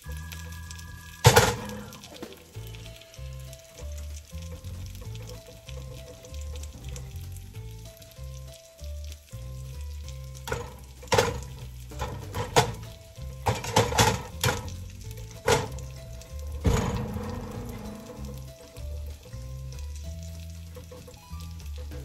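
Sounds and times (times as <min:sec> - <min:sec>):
background music with bass line: 0:00.0 - 0:22.0
sausages frying in a pan: 0:00.0 - 0:22.0.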